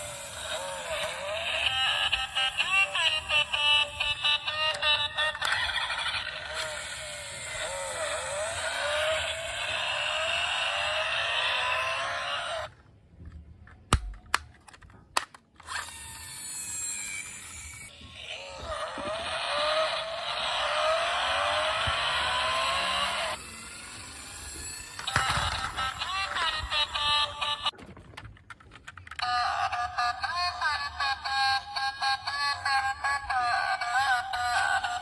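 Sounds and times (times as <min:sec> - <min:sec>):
toy car motor whirring: 0:00.0 - 0:12.8, 0:15.6 - 0:27.8, 0:28.8 - 0:35.0.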